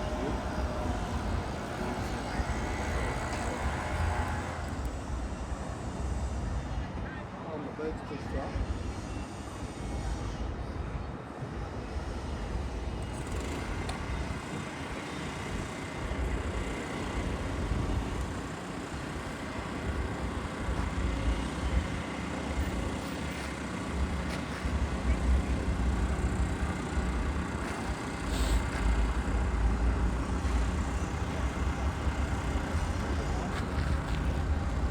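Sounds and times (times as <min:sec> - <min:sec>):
jet engines rumbling: 0:00.0 - 0:06.4, 0:13.3 - 0:34.9.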